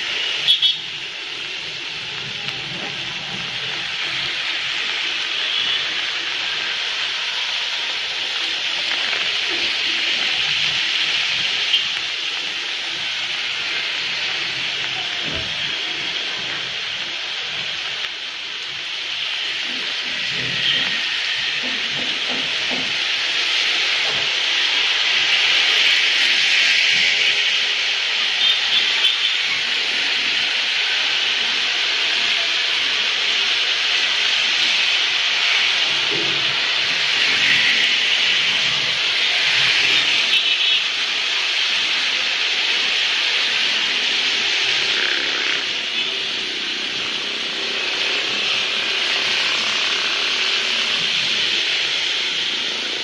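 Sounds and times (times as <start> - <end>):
rain falling on street: 0.0 - 53.0
traffic passing on wet road: 0.0 - 53.0.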